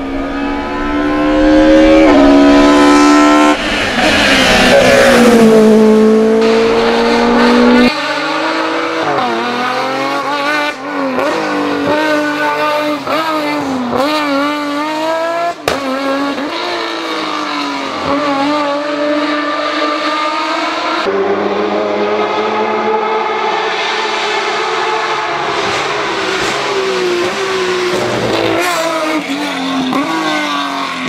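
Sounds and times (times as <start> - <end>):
race car engine at full throttle: 0.0 - 31.0.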